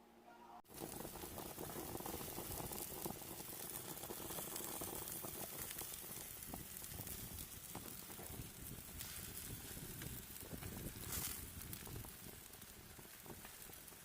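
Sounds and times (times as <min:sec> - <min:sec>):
food sizzling on a grill: 0:00.7 - 0:14.0.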